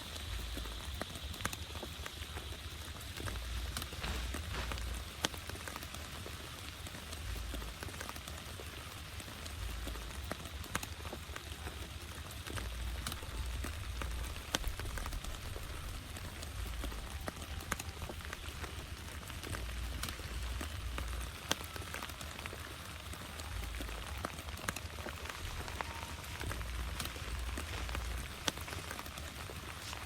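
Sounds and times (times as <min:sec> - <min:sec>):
rain falling: 0:00.0 - 0:30.0
raindrops ticking on a surface: 0:00.0 - 0:30.0.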